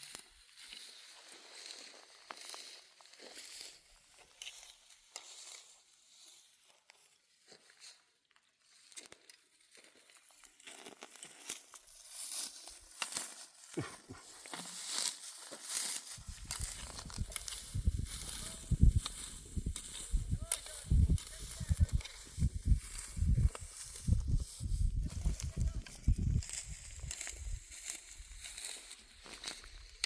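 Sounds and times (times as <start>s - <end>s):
dry stalks crackling and tearing: 0.1s - 6.3s, 8.6s - 30.0s.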